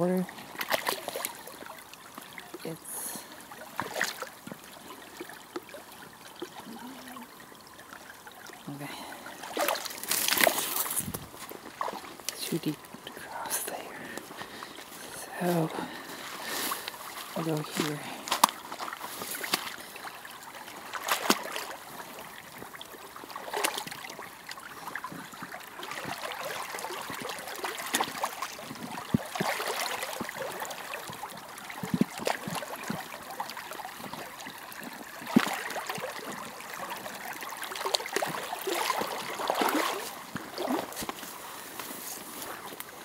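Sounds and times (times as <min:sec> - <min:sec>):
boots sloshing through muddy water: 0:00.3 - 0:06.6, 0:08.7 - 0:43.0.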